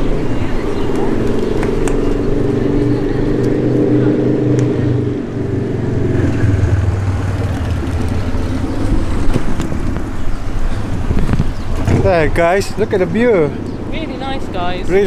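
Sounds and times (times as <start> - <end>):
passing vehicle engines: 0.0 - 15.0.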